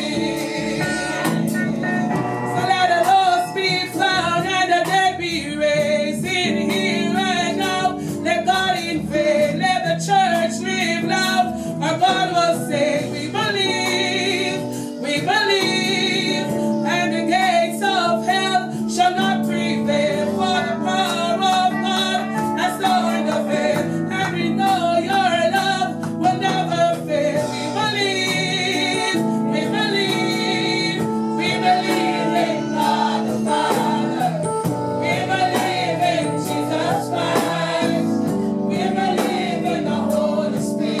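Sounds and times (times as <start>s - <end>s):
choir singing gospel: 0.0s - 41.0s
instrumental accompaniment: 0.0s - 41.0s.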